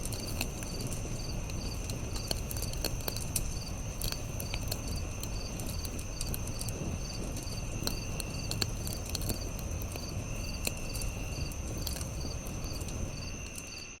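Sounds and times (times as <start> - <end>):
campfire crackling and popping: 0.0 - 14.0
crickets chirping: 0.0 - 14.0
insects trilling: 0.0 - 14.0.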